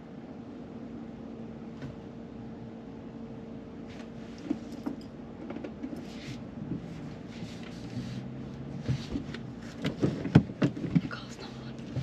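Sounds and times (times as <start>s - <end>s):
faint hum: 0.0s - 9.7s, 10.8s - 12.0s.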